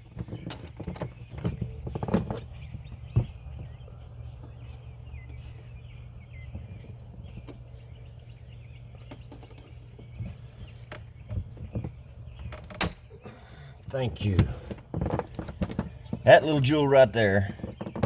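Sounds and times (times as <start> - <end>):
light clicks and knocks: 0.0 - 13.1, 13.9 - 16.7
low ambient hum: 0.0 - 17.8.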